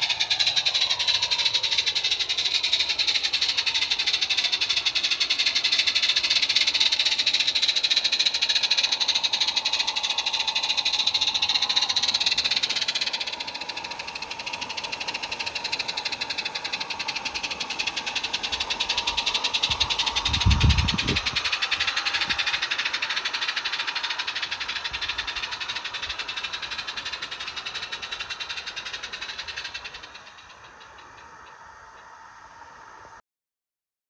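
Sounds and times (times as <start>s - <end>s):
model train clicking: 0.0s - 33.2s
train hiss: 0.0s - 33.2s.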